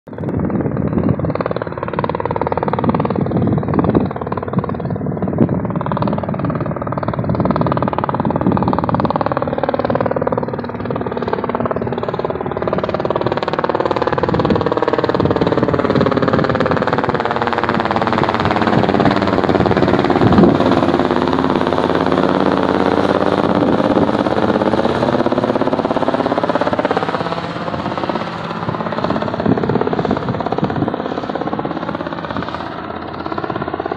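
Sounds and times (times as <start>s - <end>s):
helicopter flying overhead: 0.0s - 33.9s.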